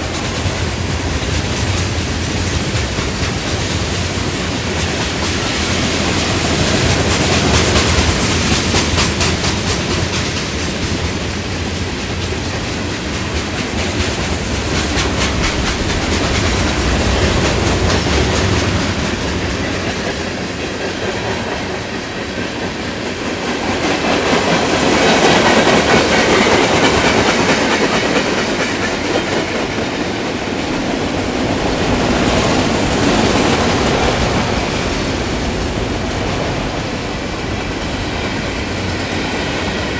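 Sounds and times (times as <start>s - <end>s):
train rumble and rail noise: 0.0s - 39.9s
train wheels clicking over rail joints: 0.0s - 39.9s.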